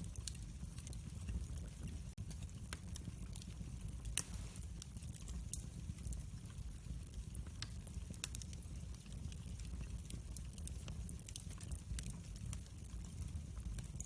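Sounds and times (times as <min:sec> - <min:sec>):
fire crackles and pops: 0:00.0 - 0:14.0
wood fire rumble: 0:00.0 - 0:14.0.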